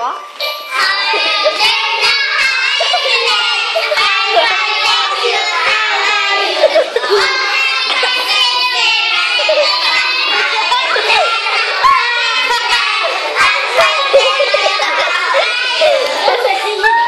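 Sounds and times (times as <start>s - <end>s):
young children singing: 0.2s - 17.0s.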